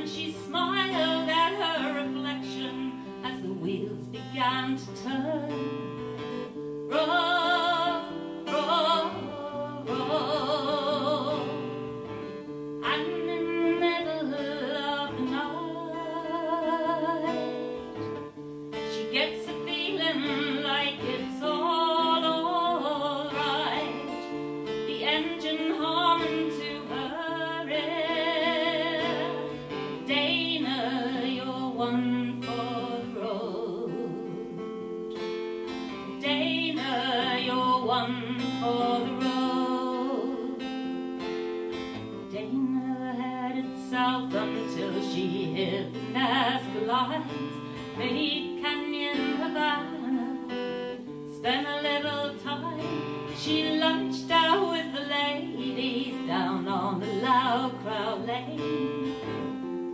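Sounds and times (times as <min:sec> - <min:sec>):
woman singing with vibrato: 0:00.0 - 0:41.2, 0:42.0 - 0:59.8
acoustic guitar: 0:00.0 - 0:59.9.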